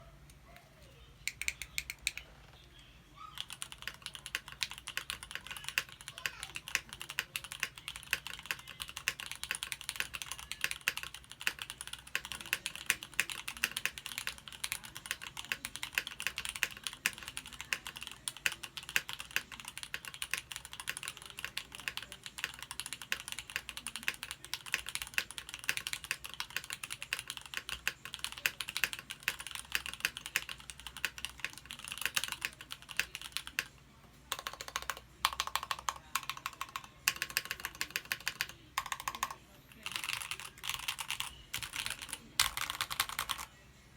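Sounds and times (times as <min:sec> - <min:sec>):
low background hum: 0:00.0 - 0:43.9
typing on mechanical keyboard: 0:03.3 - 0:33.7, 0:34.3 - 0:43.5.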